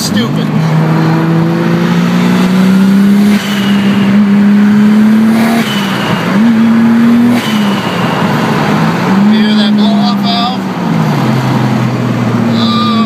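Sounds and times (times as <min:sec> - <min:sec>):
turbocharged car engine accelerating: 0:00.0 - 0:13.0.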